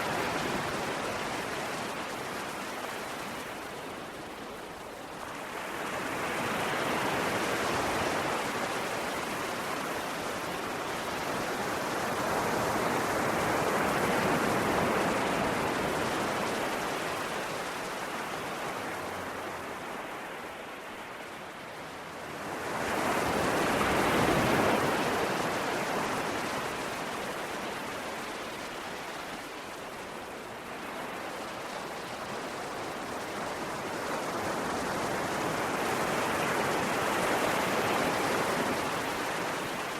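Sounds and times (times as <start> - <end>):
ocean waves washing onto shore: 0.0 - 39.9.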